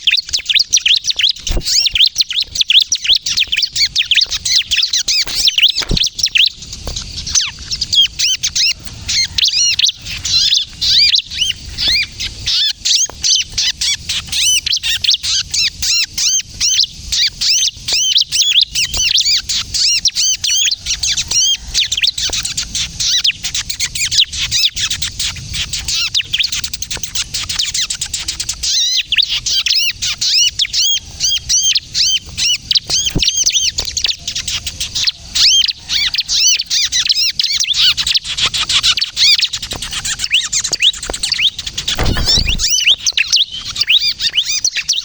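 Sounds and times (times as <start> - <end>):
bird chirping and twittering: 0.0 - 23.4, 24.0 - 45.0.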